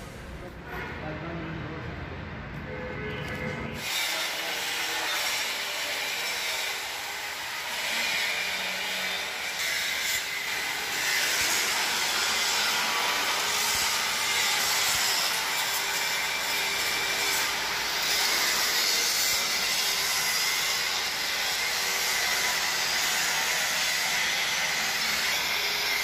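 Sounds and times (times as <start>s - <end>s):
angle grinder cutting steel: 3.8s - 26.0s.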